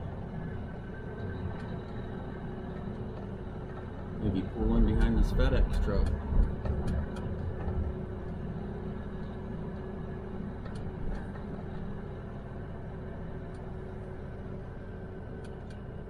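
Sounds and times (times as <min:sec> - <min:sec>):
diesel engine hum: 0:00.0 - 0:16.0.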